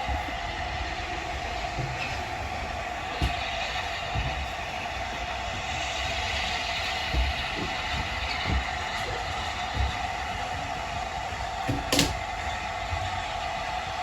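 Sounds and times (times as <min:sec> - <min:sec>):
low thump of train wheels: 0:00.0 - 0:14.0
train rumbling on rails: 0:00.0 - 0:14.0.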